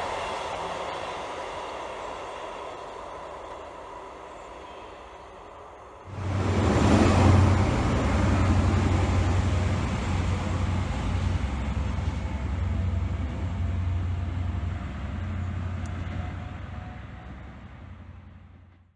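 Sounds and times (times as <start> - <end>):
diesel train engine drone: 0.0 - 18.9
wheel and rail noise: 0.0 - 18.9.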